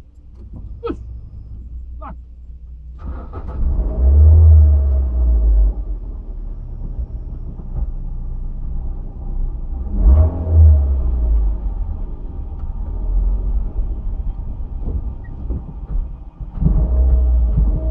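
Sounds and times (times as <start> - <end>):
low rumbling thuds: 0.0 - 3.0, 3.6 - 17.9
car rumble: 0.0 - 17.9.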